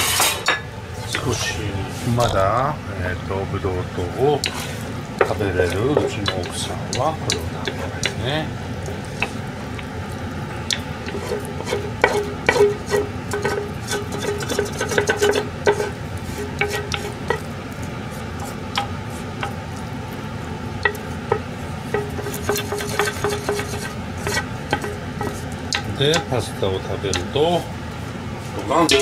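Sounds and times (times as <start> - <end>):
wooden spatula scraping frying pan: 0.0 - 0.4, 4.4 - 10.1, 10.7 - 29.0.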